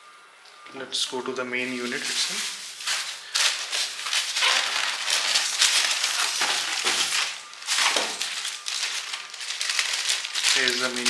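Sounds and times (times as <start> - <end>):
packaging rustling and crinkling: 1.6 - 11.0.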